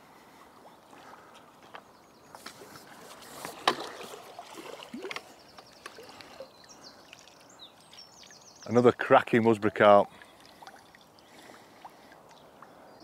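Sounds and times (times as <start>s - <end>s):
water splashing and sloshing: 0.1s - 8.4s, 10.0s - 12.8s.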